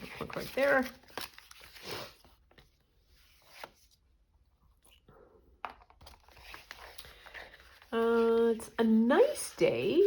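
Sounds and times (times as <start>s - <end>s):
paper and card rustling: 0.0s - 4.0s, 5.9s - 10.0s.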